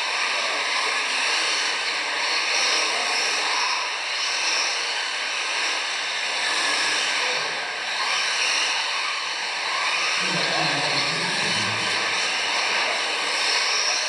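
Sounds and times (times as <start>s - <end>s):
high-pitched electric motor whine: 0.0s - 14.0s.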